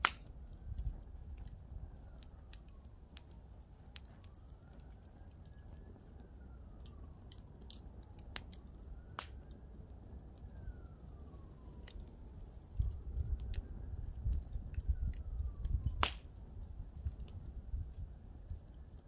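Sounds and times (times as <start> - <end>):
campfire crackling and popping: 0.0 - 19.0
faint siren wailing: 0.0 - 19.0.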